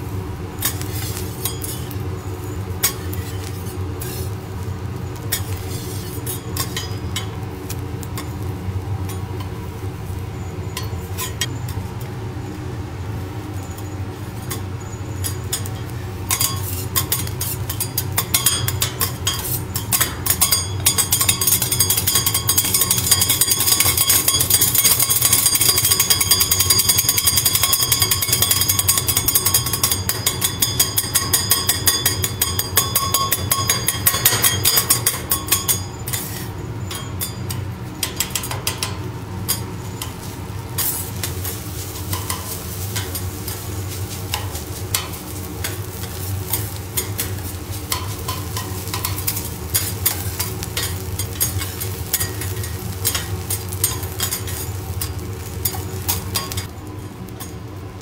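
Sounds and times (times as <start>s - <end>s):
food sizzling on griddle: 0.0s - 58.0s
metal spatulas chopping on griddle: 0.6s - 2.0s, 2.8s - 4.4s, 5.2s - 8.4s, 14.5s - 56.7s.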